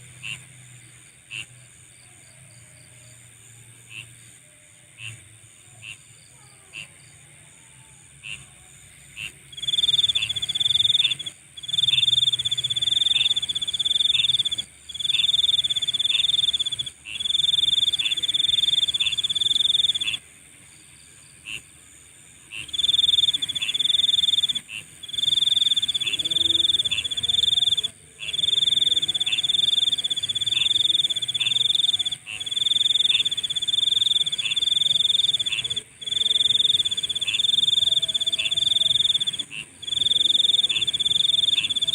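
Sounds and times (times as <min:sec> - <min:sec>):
high continuous insect buzz: 0:00.0 - 0:41.9
insect trilling: 0:05.0 - 0:41.9.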